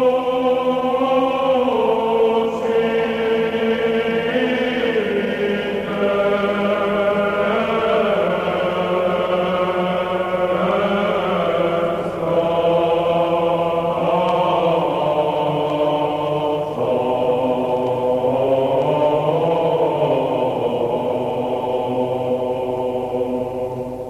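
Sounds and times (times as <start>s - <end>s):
choir chanting: 0.0s - 24.0s.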